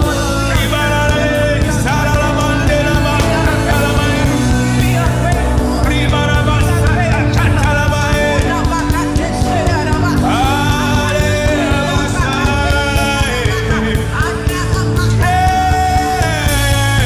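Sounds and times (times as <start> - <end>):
gospel band playing: 0.0 - 17.0
people singing: 0.0 - 17.0.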